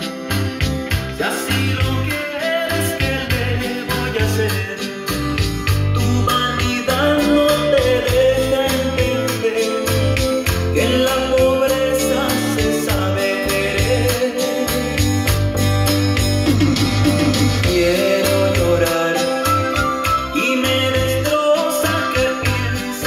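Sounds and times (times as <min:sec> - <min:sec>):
song with beat and bass line: 0:00.0 - 0:23.0.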